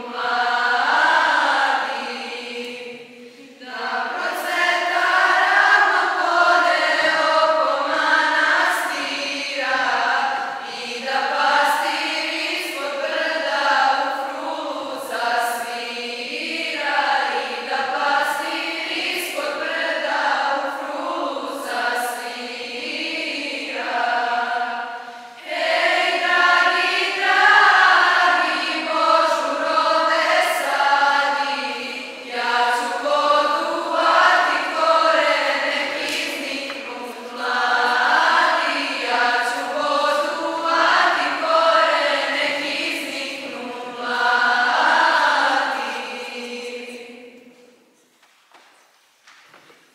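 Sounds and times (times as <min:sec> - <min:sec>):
choir singing a hymn: 0:00.0 - 0:48.0.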